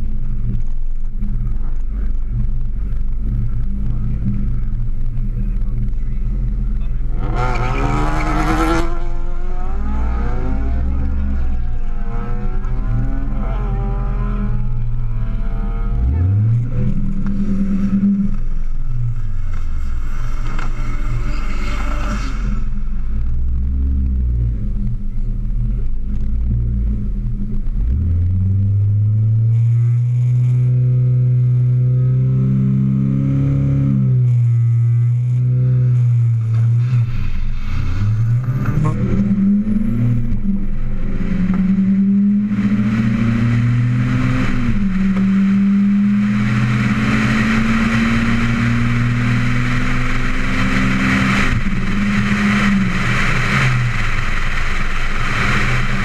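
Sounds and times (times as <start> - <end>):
car engine revving and accelerating: 0.0 - 56.0
wind and road rush: 0.0 - 56.0.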